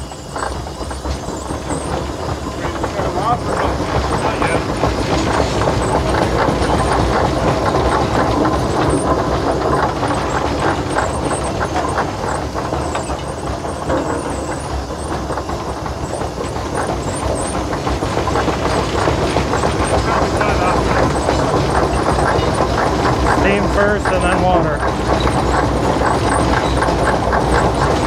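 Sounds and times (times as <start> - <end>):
steam engine clattering: 0.0 - 28.0.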